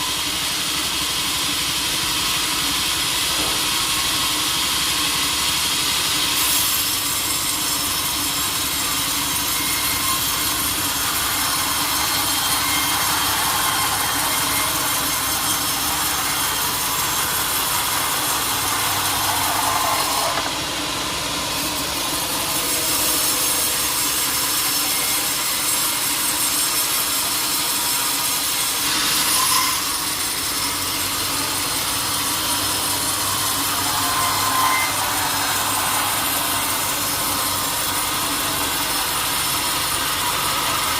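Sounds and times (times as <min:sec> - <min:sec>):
saw blade cutting log: 0:00.0 - 0:40.9.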